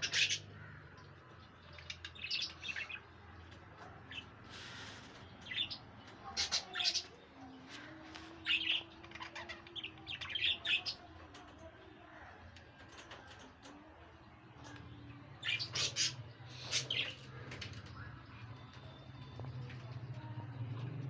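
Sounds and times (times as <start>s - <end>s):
caged birds chirping: 0.0s - 21.0s.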